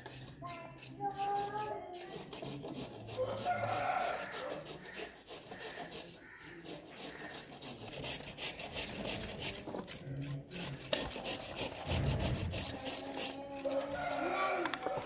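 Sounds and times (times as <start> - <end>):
carrots grated on a grater: 0.0 - 15.0.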